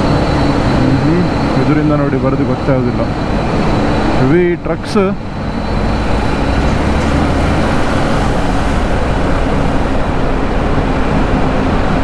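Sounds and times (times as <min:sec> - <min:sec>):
low engine rumble: 0:00.0 - 0:12.0
road noise rushing: 0:00.0 - 0:12.0.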